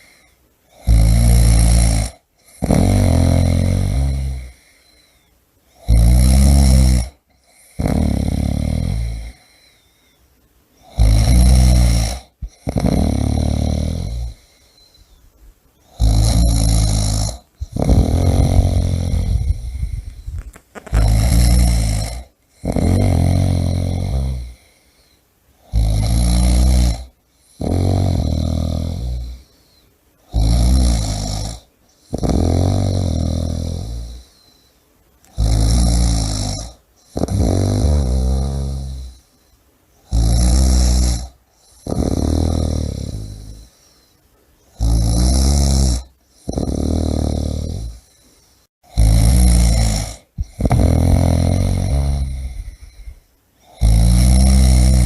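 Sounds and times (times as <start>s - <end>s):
person snoring: 0.0s - 9.9s, 10.8s - 15.2s, 15.8s - 34.6s, 35.2s - 39.4s, 40.0s - 44.1s, 44.7s - 55.0s.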